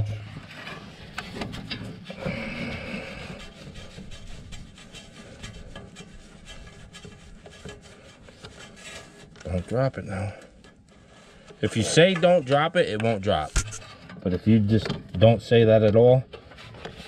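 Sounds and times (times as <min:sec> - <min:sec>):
faint rubbing and scraping: 0:00.0 - 0:17.0.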